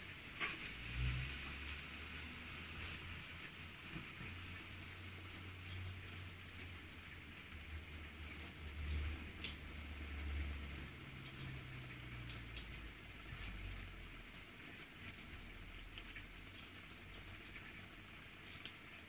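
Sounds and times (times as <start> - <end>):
light rain pattering on tiles: 0.0 - 19.0
sharp water drips: 0.0 - 19.0.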